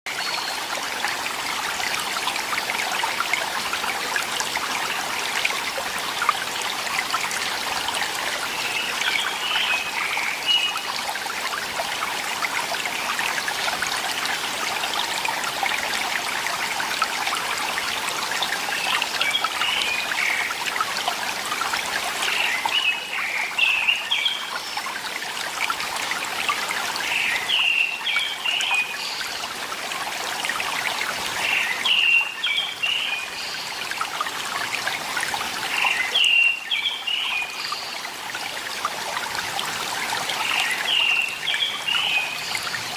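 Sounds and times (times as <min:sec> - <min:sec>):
stream babbling: 0:00.1 - 0:42.9.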